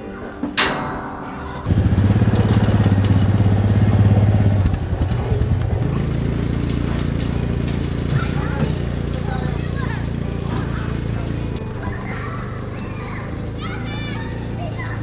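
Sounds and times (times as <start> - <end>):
atv engine running: 1.6 - 15.0.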